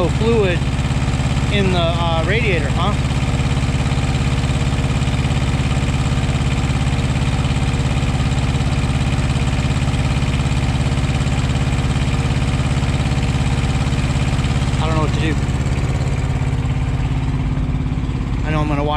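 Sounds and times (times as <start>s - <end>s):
diesel truck engine idling: 0.0s - 18.9s.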